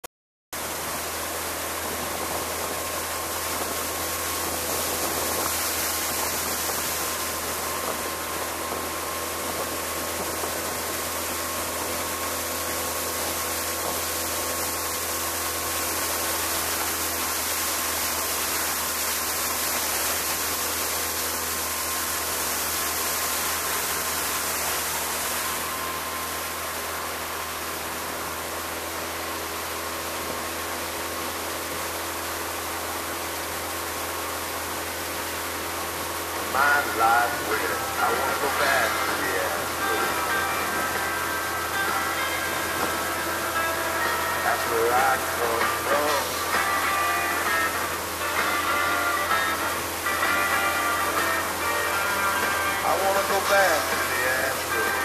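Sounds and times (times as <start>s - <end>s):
outboard motor running: 0.6s - 55.0s
wind and water rushing: 0.6s - 55.0s.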